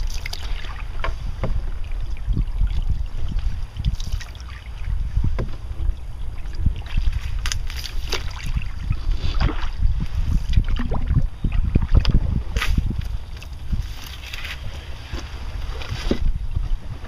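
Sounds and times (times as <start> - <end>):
paddle splashes and knocks: 0.0 - 16.4
wind buffeting microphone: 0.0 - 17.0.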